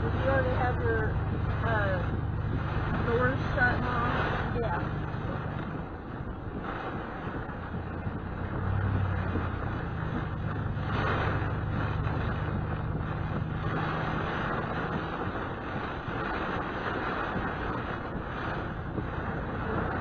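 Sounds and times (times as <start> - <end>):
car engine hum: 0.0 - 20.0
road and rain noise: 0.0 - 20.0
windshield wiper swishing: 0.0 - 20.0.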